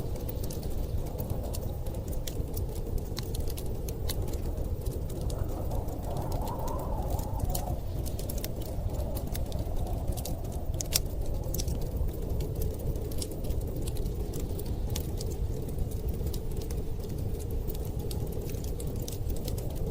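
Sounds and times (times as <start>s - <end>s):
low rush of storm wind: 0.0s - 19.9s
wood fire crackling: 0.0s - 19.9s.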